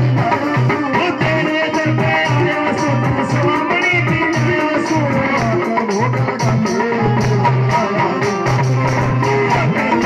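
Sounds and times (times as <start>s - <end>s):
drum beaten with stick: 0.0s - 10.0s
man singing: 0.0s - 10.0s
shaken percussion: 0.0s - 10.0s.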